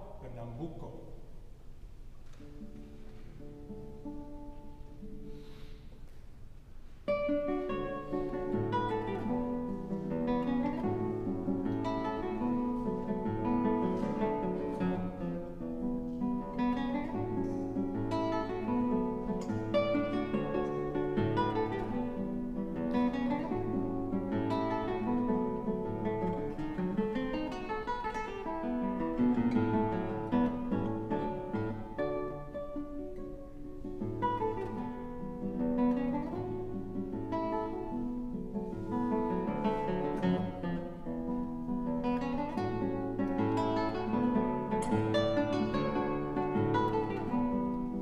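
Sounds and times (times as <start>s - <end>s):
fingerpicked classical guitar: 1.6s - 48.0s.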